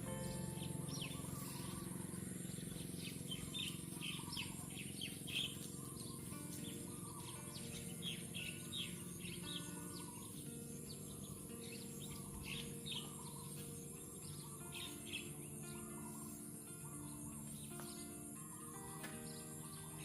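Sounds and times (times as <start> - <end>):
small birds chirping: 0.0 - 20.0
soft background music: 0.0 - 20.0.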